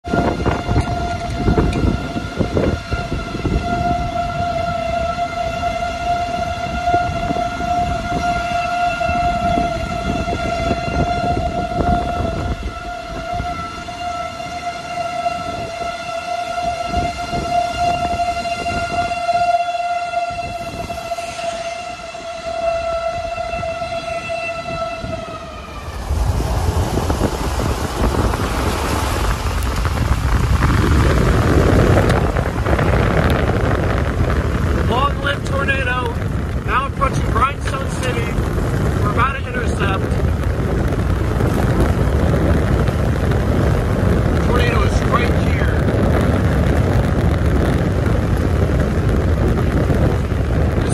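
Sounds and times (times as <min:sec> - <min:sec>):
road and vehicle noise: 0:00.0 - 0:50.9
tornado warning siren: 0:00.0 - 0:50.9
wind buffeting microphone: 0:00.0 - 0:50.9.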